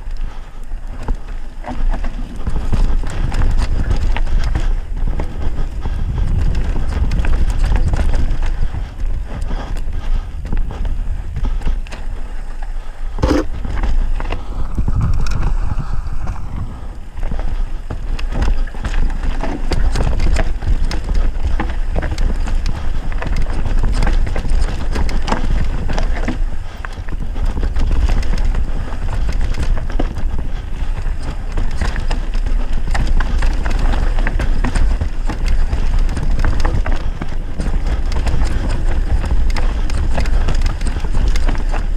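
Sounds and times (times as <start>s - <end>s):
bike rattling over rocks: 0.0s - 41.9s
wind rumble on microphone: 0.0s - 41.9s.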